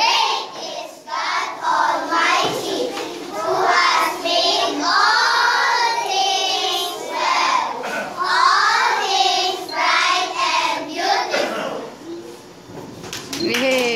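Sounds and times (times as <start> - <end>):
children singing in unison: 0.0 - 11.7.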